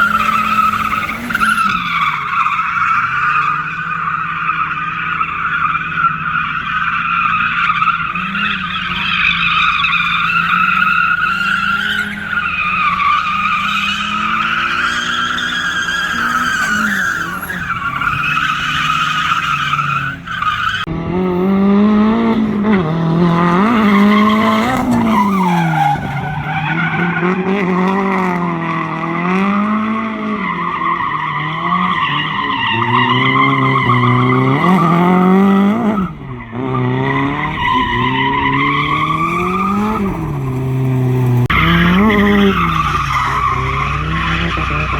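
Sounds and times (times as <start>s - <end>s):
car engine revving: 0.0s - 44.9s
tires squealing: 0.0s - 44.9s.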